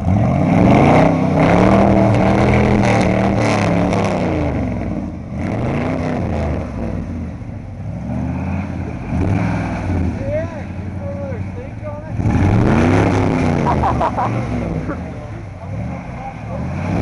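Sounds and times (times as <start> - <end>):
pickup truck engine revving: 0.0 - 17.0.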